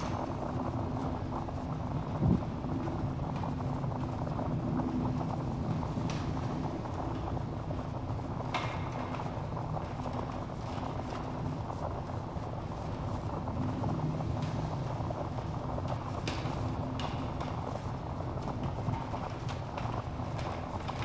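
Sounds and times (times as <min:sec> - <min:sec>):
low rumble of flames: 0:00.0 - 0:21.0.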